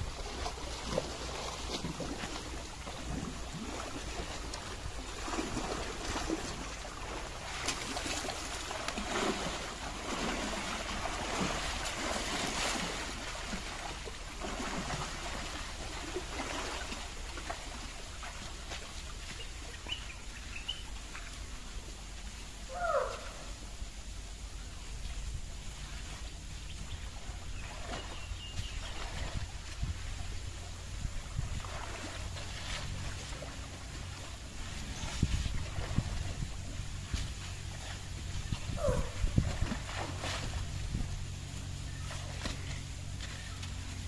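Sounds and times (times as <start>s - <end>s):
elephants splashing in water: 0.0s - 23.6s, 24.6s - 44.0s
stream water flowing: 0.0s - 44.0s.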